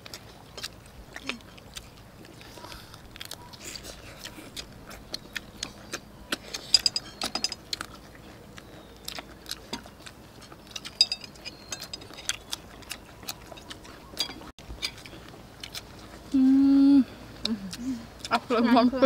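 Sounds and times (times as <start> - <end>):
people chewing and lip smacking: 0.0 - 19.0.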